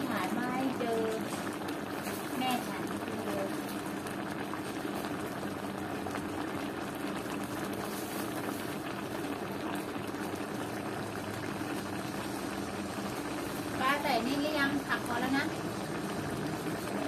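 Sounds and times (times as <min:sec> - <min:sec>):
broth bubbling: 0:00.0 - 0:17.0.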